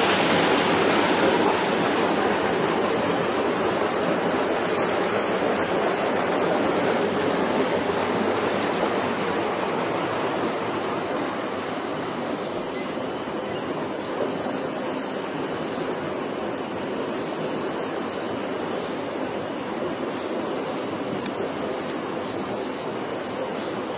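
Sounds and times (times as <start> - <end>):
running water rushing: 0.0 - 23.9.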